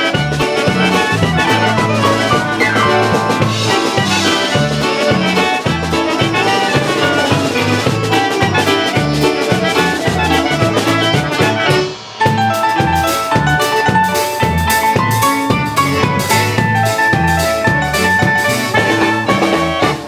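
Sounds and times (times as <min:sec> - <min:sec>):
clarinet melody: 0:00.0 - 0:20.0
polka band playing: 0:00.0 - 0:20.0.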